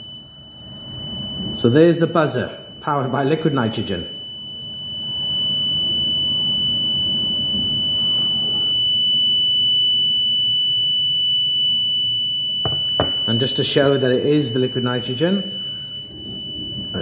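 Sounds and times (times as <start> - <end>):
high-pitched buzzer tone: 0.0 - 17.0.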